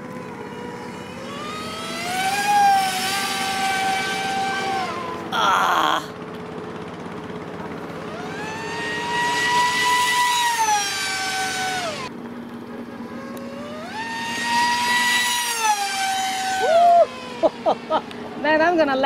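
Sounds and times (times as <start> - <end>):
electric motor and propeller whining: 0.0 - 19.0.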